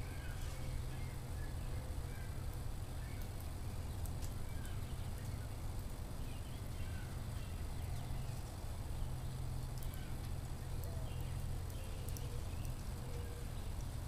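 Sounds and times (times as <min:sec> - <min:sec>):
low fire rumble: 0:00.0 - 0:14.0
small birds chirping: 0:00.0 - 0:14.0
wood fire crackling: 0:00.0 - 0:14.0.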